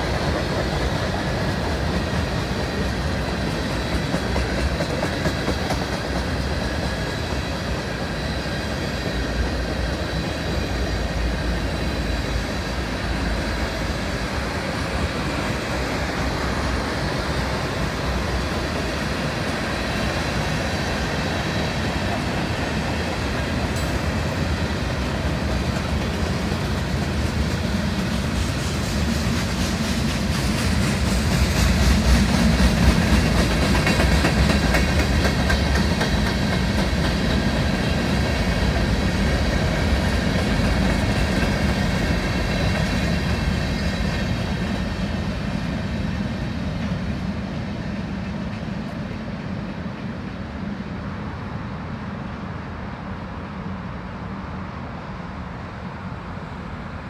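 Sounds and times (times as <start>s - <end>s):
steel wheels rumbling over rails: 0.0s - 57.0s.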